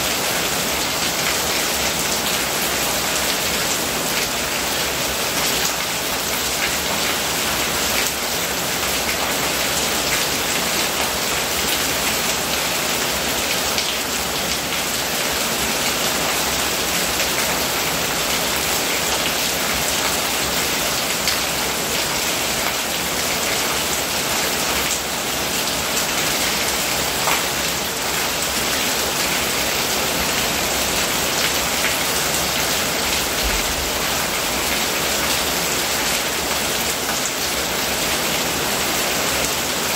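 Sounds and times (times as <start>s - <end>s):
rain on roof and ground: 0.0s - 39.9s.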